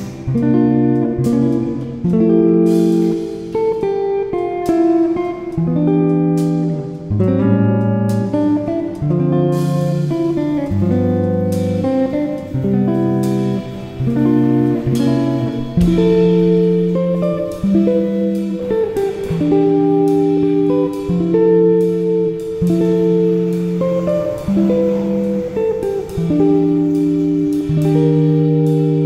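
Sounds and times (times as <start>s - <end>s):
guitar instrumental music: 0.0s - 29.0s.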